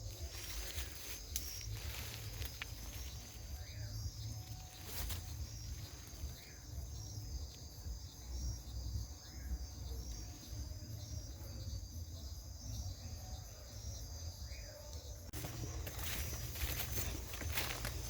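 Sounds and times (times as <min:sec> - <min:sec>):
insects pulsing trill: 0:00.0 - 0:18.0.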